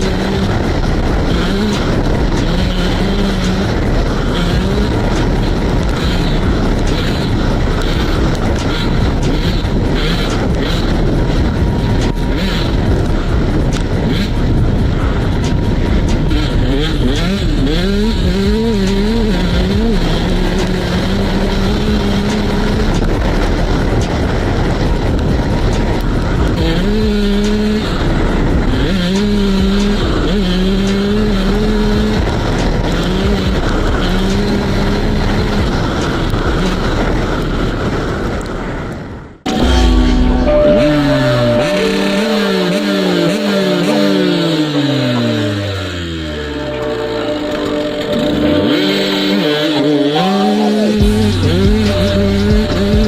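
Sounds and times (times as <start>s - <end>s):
constant rushing noise: 0.0s - 53.0s
motocross bike engine: 0.0s - 53.0s.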